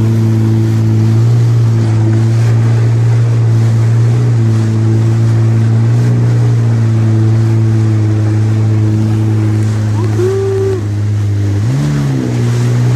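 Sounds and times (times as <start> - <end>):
jet ski engine droning: 0.0 - 12.9
water rushing past hull: 0.0 - 12.9.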